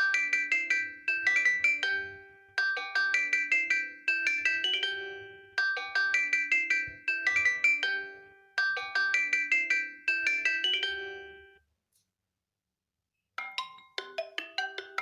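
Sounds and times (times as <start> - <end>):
bright ringtone melody: 0.0 - 11.6, 13.4 - 15.0
different ringtone melody: 0.0 - 11.6, 13.4 - 15.0.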